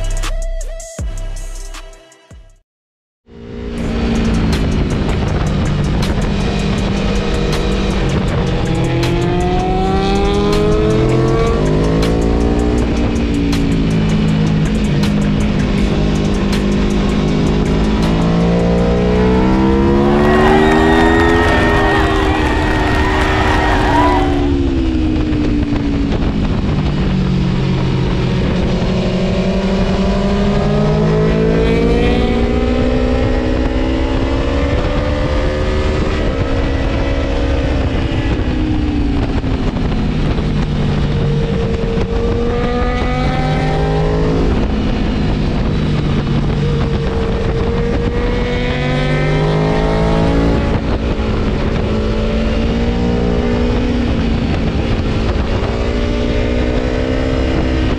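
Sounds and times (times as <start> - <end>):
motorcycle engine revving: 3.3 - 57.9.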